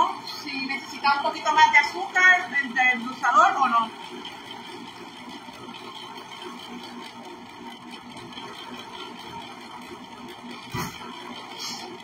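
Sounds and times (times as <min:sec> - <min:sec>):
ice cream maker motor humming: 0:00.0 - 0:12.0.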